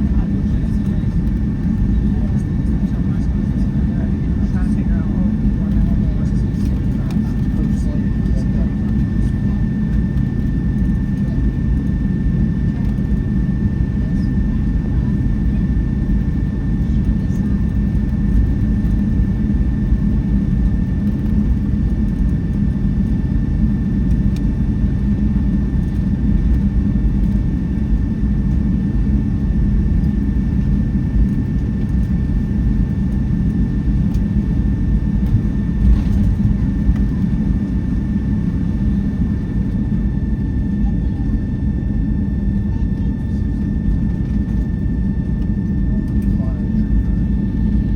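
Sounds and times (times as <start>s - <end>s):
low engine rumble: 0.0s - 47.9s.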